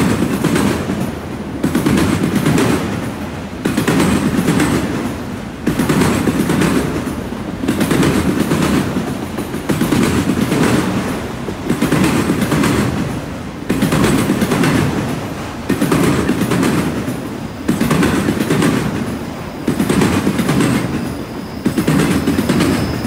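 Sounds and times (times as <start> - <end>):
train wheels rumbling on rail: 0.0 - 23.0
wheels clattering over track joints: 0.0 - 23.0.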